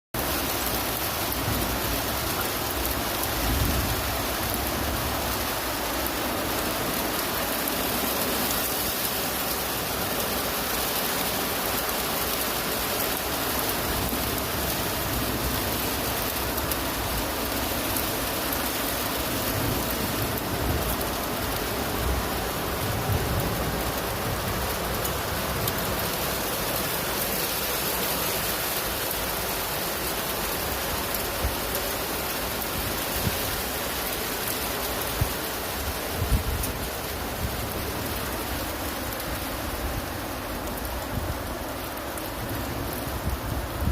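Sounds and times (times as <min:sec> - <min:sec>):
steady rain falling: 0:00.1 - 0:43.9.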